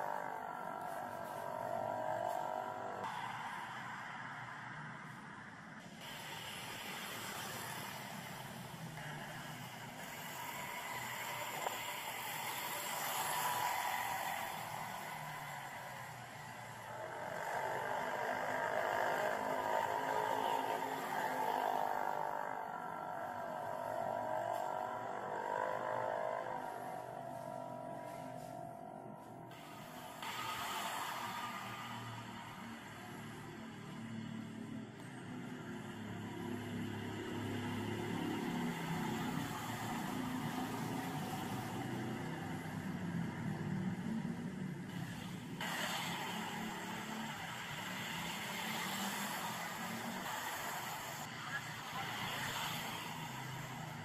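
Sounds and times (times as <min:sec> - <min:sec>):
road noise: 0:00.0 - 0:54.0
street traffic noise: 0:00.0 - 0:54.0
vehicle engine running: 0:00.0 - 0:54.0.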